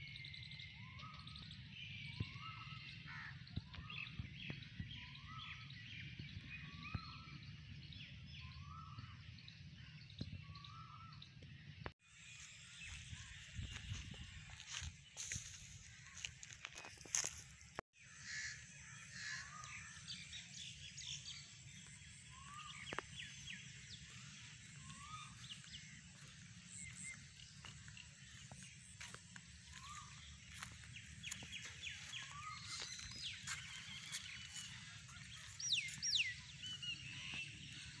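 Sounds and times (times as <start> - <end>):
birds calling and chirping: 0.0 - 38.0
sweeping whistled bird calls: 0.0 - 38.0.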